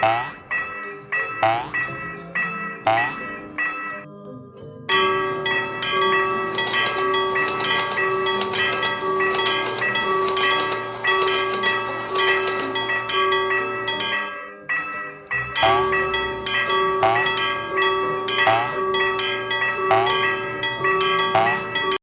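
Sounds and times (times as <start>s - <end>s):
railroad crossing bells clanging: 0.0s - 4.1s, 4.9s - 22.0s.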